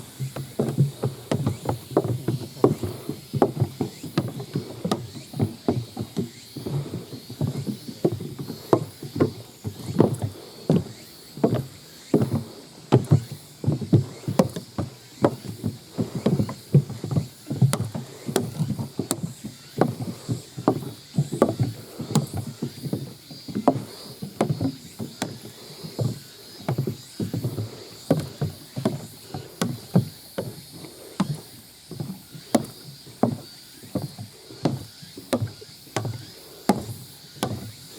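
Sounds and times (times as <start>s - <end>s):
footfalls on a trail: 0.0s - 37.9s.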